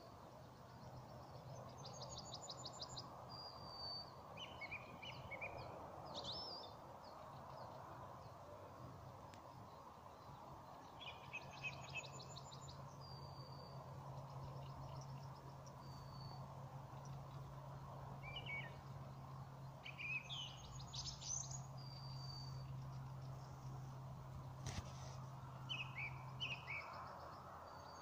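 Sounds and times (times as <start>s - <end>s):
songbirds singing: 0.0s - 28.0s.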